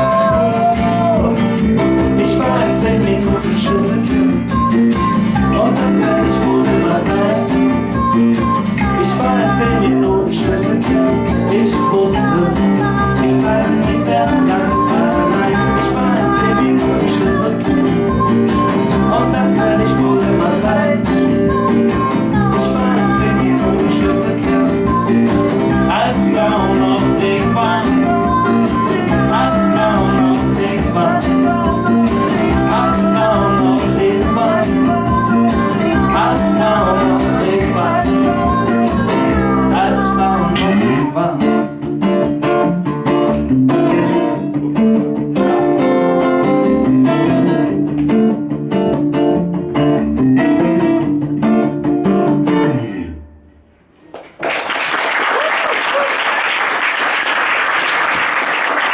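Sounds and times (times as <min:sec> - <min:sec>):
live band with guitar: 0:00.0 - 0:54.7.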